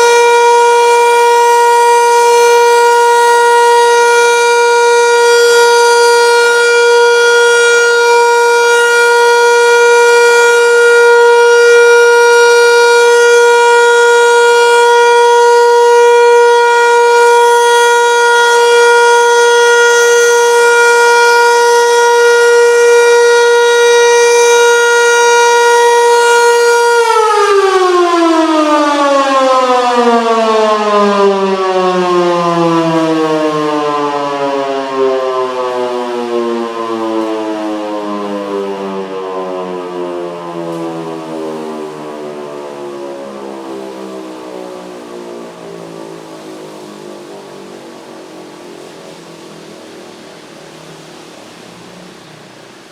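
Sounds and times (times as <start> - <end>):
electric motor siren: 0.0 - 49.6.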